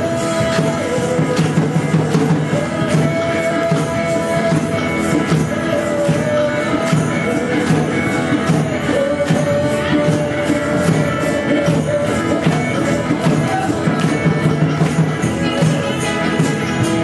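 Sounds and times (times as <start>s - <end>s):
electric keyboard: 0.0s - 17.0s
hand drums and percussion: 0.0s - 17.0s.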